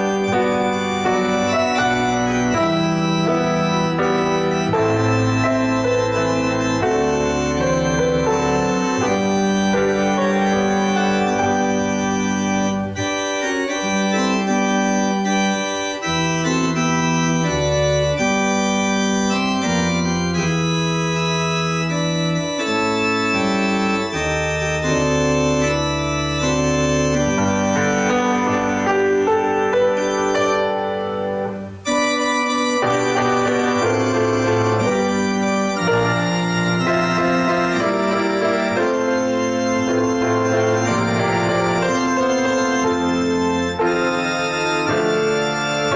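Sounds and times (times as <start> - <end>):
organ playing chords: 0.0 - 45.9.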